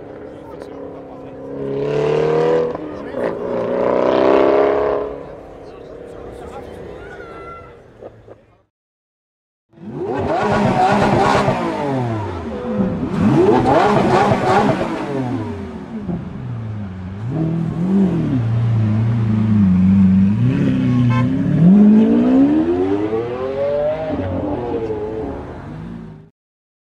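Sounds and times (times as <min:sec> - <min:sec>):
sports car engine revving: 0:00.0 - 0:06.5, 0:09.8 - 0:26.3.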